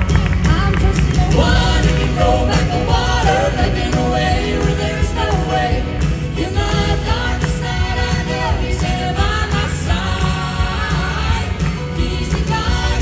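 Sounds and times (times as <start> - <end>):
vocal group singing gospel: 0.3 - 13.0.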